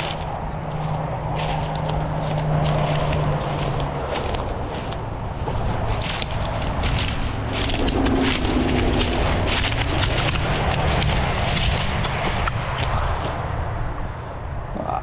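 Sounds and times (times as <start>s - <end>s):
footsteps crunching through dry reeds: 0.0s - 14.0s
steady low rumble: 0.0s - 15.0s.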